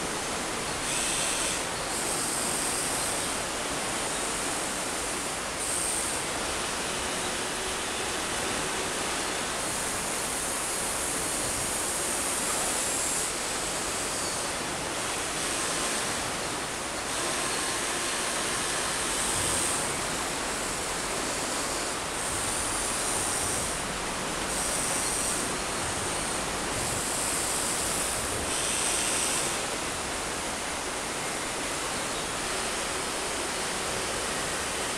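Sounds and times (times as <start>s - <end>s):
water rushing: 0.0s - 34.9s.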